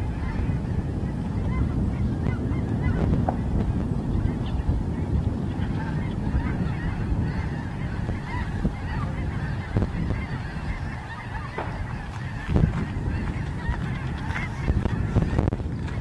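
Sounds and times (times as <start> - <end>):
geese and ducks honking: 0.0 - 16.0
steady low rumble: 0.0 - 16.0.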